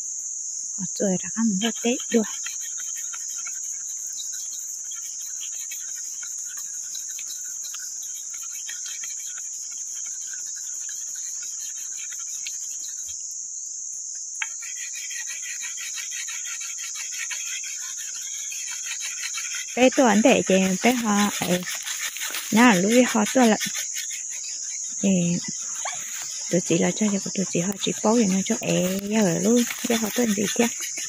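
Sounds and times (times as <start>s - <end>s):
insect chorus trilling: 0.0s - 31.0s.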